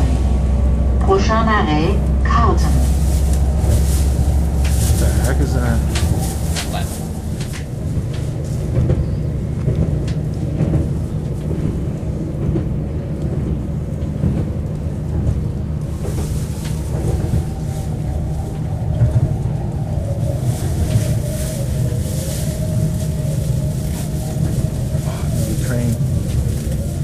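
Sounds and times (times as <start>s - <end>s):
train rumble from inside car: 0.0s - 27.0s.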